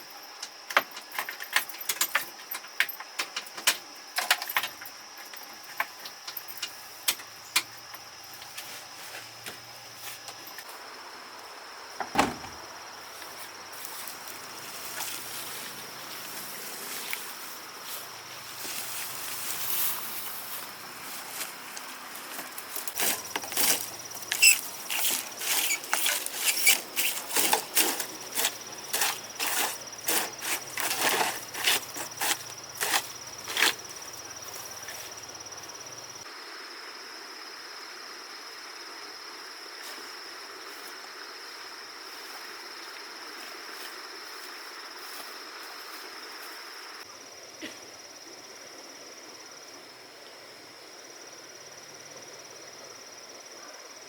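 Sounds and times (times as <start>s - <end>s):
high insect trill: 0.0s - 54.0s.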